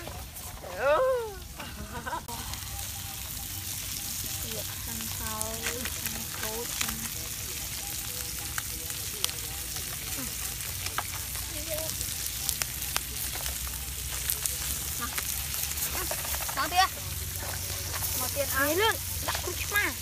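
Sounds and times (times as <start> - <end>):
fire popping and crackling: 0.0 - 20.0
fish sizzling on metal sheet: 0.0 - 20.0.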